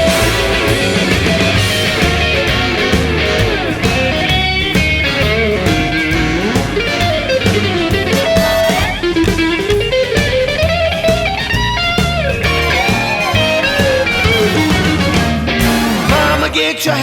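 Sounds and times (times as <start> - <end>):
electric guitar solo: 0.0 - 16.2
rock drum and bass beat: 0.0 - 16.7.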